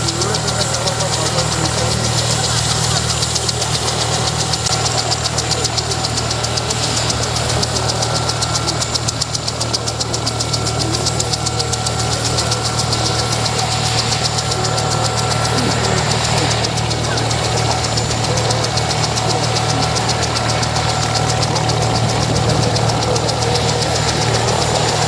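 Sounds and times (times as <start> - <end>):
jet engines whining at idle: 0.0 - 25.0
low engine rumble: 0.0 - 25.0.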